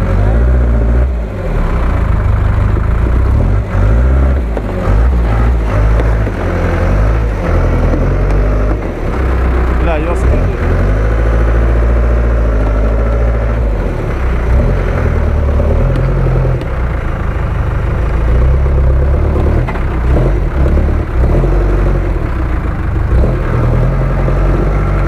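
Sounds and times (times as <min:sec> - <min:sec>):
car engine revving unevenly: 0:00.0 - 0:25.0.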